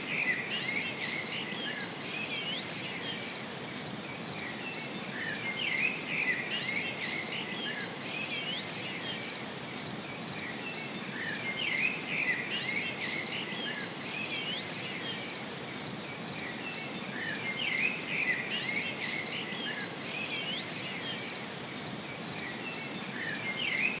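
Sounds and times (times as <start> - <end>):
small birds twittering: 0.0 - 24.0.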